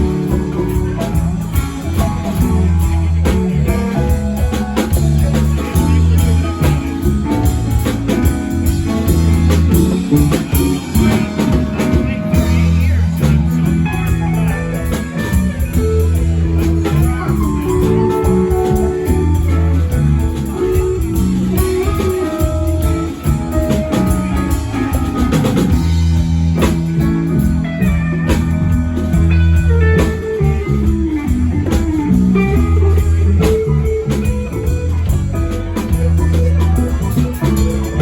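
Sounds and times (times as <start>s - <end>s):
bluesy rock band music: 0.0s - 38.0s.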